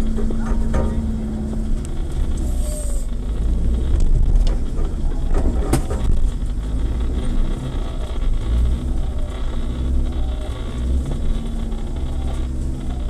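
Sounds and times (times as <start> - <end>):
knocks and clatters: 0.0 - 13.0
vehicle engine rumbling: 0.0 - 13.0.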